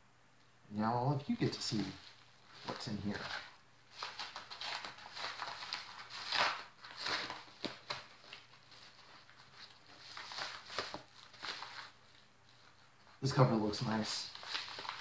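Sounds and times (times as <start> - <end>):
paper mailer crinkling: 1.4 - 12.2, 13.3 - 15.0.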